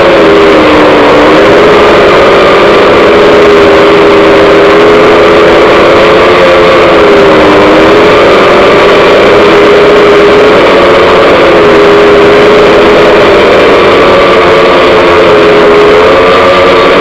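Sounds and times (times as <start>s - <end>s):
drone motors humming: 0.0s - 17.0s
rushing prop wash: 0.0s - 17.0s.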